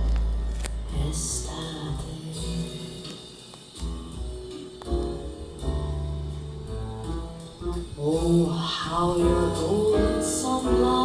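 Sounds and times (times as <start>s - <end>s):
slow ballad instrumental: 0.0s - 11.0s.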